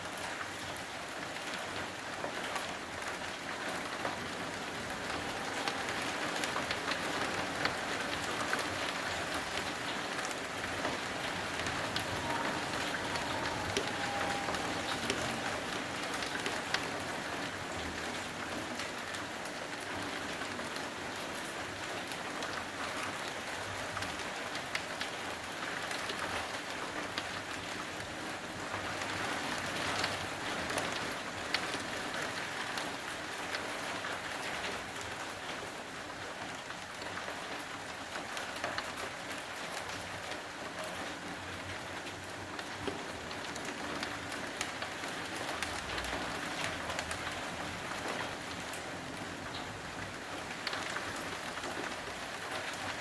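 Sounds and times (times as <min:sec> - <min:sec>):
heavy rain: 0:00.0 - 0:53.0
raindrops ticking on surfaces: 0:00.0 - 0:53.0.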